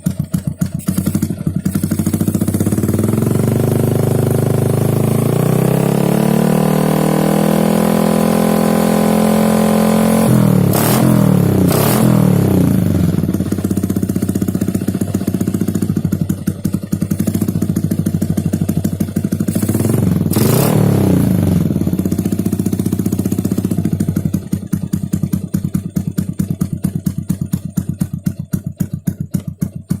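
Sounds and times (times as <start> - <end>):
motorcycle engine idling: 0.0 - 7.3, 8.6 - 30.0
motorcycle engine revving: 0.0 - 30.0.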